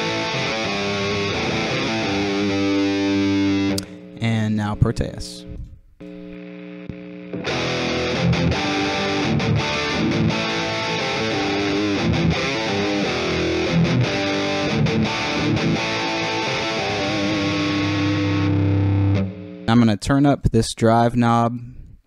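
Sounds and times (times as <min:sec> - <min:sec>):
distorted electric guitar: 0:00.0 - 0:19.8.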